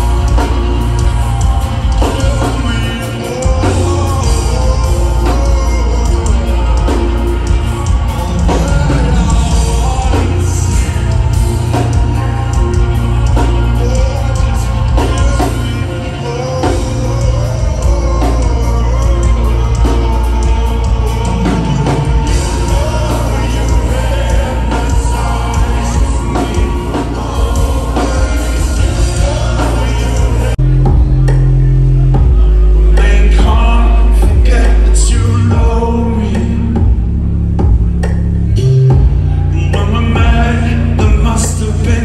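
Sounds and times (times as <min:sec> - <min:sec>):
man singing: 0:00.0 - 0:37.1, 0:38.5 - 0:42.0
live rock band playing: 0:00.0 - 0:42.0.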